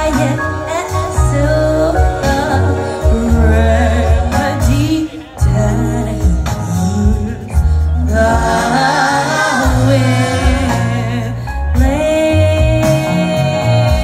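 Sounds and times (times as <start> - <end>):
live band and orchestra: 0.0 - 14.0
pulsing bass: 0.0 - 14.0.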